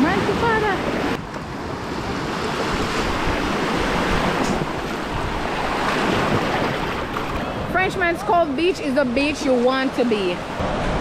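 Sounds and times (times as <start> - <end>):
wind on microphone: 0.0 - 9.6
waves breaking: 0.0 - 11.0.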